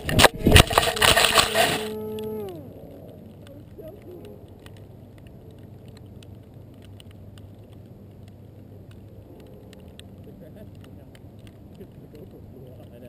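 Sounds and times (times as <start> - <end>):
faint low background noise: 0.0 - 13.0
soft ticks: 2.1 - 13.0.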